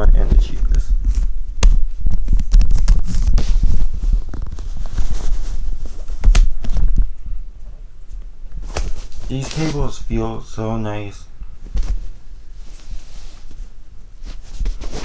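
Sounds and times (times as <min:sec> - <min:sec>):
cables rubbing handling noise: 0:00.0 - 0:15.0.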